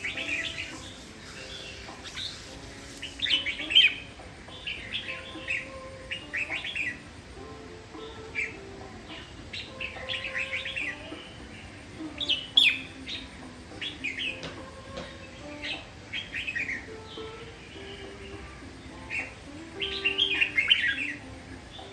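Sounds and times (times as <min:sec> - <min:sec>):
bird chirping: 0:00.0 - 0:21.9.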